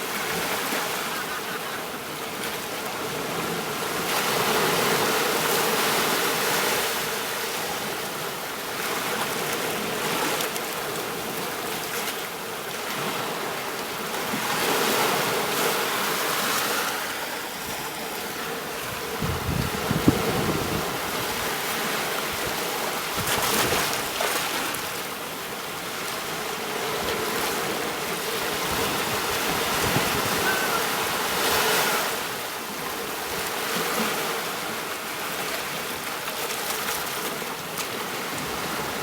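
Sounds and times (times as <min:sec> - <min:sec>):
ocean waves washing onto beach: 0:00.0 - 0:39.0.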